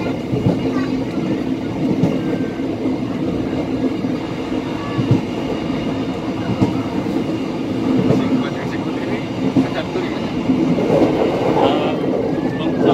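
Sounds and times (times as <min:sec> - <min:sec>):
sharp clacks from train wheels: 0:00.0 - 0:11.6
train wheels rumbling on rails: 0:00.0 - 0:12.9.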